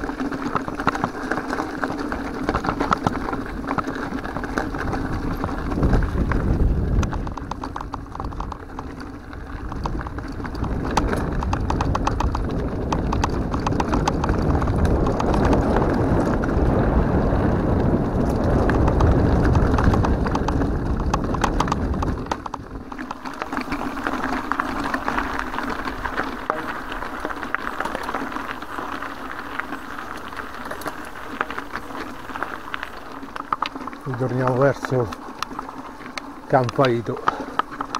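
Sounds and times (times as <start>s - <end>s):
bike rattling over gravel: 0.0s - 37.9s.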